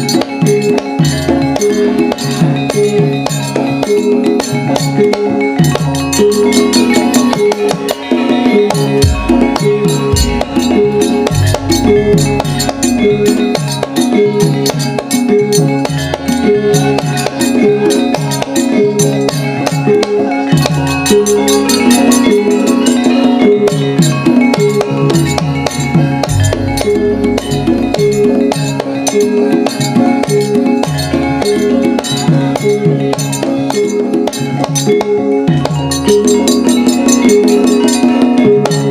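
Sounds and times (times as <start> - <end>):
drums: 0.0 - 38.9
metallophones ringing: 0.0 - 38.9.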